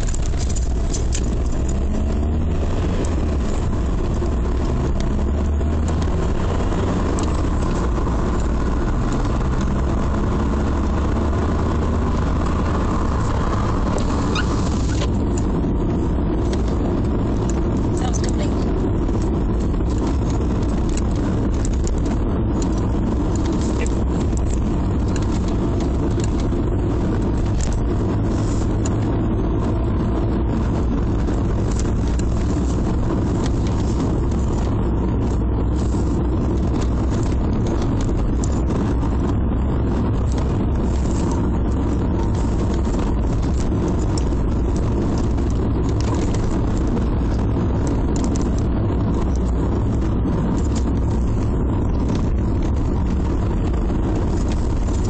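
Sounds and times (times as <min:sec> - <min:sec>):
engine rumble inside car: 0:00.0 - 0:55.0.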